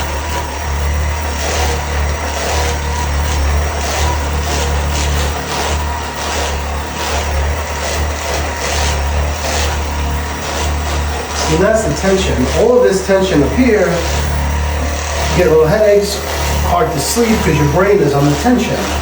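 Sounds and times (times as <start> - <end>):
electric massager humming: 0.0 - 19.0.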